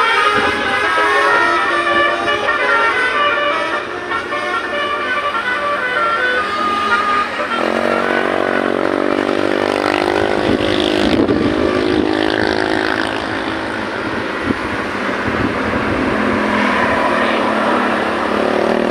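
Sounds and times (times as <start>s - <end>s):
car engine: 0.0s - 18.9s
musical car horn: 0.0s - 18.9s
road noise: 0.0s - 18.9s.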